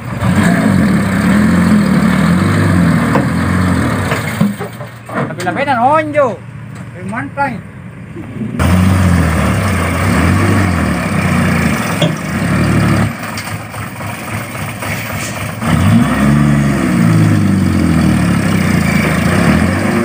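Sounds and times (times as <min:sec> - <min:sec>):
diesel truck engine under load: 0:00.0 - 0:20.0.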